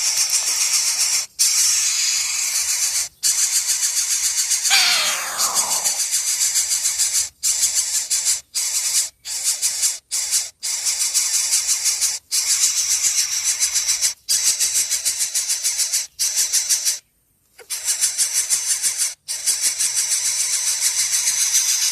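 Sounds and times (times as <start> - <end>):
baby birds begging: 0.0 - 21.9.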